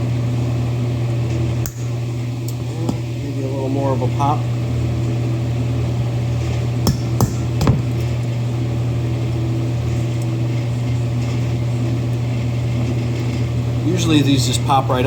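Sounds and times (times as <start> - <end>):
furnace humming: 0.0 - 15.0.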